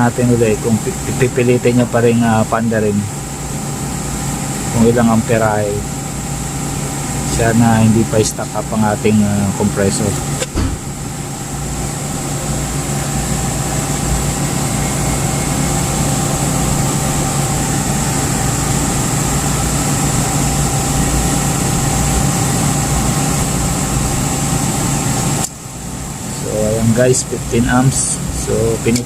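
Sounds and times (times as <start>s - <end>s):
compressor humming: 0.0s - 29.0s.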